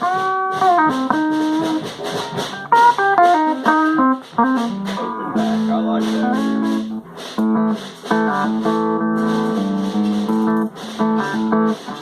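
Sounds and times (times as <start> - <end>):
electric guitar chords and notes: 0.0 - 12.0.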